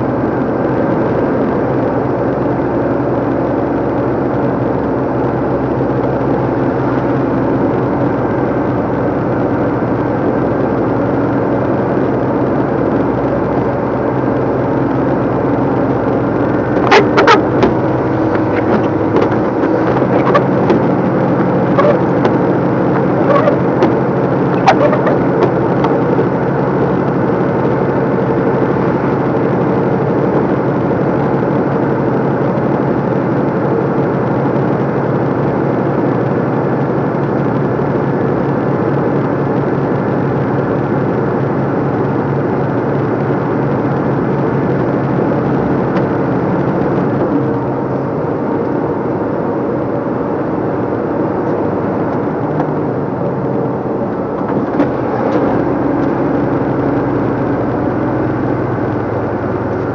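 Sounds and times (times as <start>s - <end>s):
road noise: 0.0s - 59.9s
truck diesel engine running: 0.0s - 59.9s.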